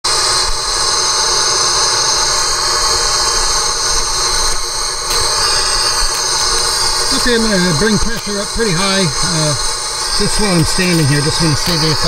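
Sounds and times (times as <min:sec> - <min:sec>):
air hissing into pressure suit: 0:00.1 - 0:12.0.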